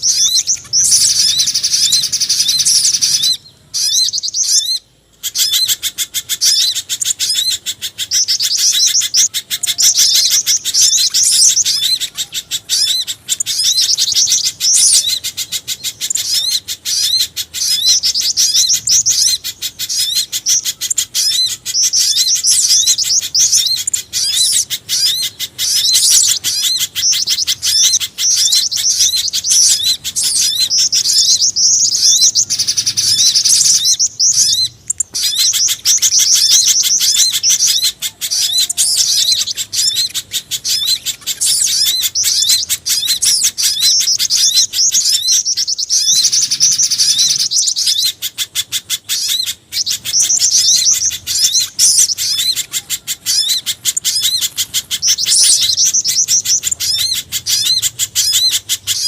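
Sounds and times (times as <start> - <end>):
birds giving sharp chirps: 0.0 - 59.0.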